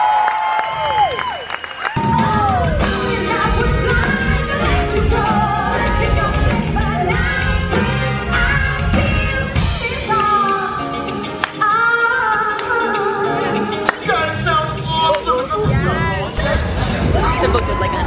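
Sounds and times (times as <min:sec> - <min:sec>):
pop rock band playing: 0:02.0 - 0:18.0
people singing: 0:02.2 - 0:17.9.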